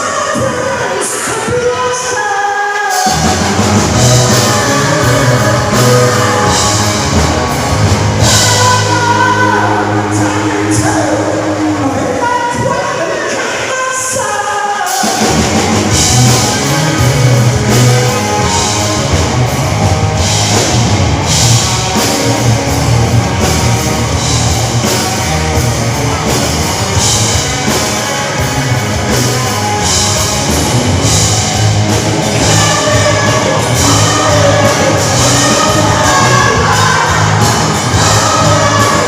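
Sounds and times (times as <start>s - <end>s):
loud rock music: 0.0s - 39.0s.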